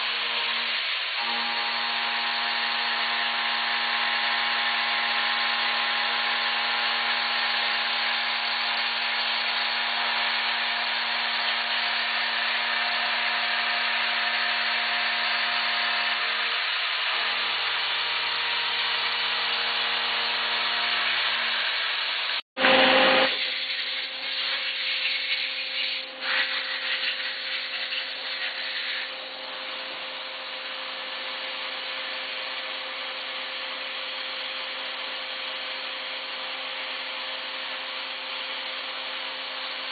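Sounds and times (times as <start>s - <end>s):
milling machine running with tones: 0.0s - 39.9s.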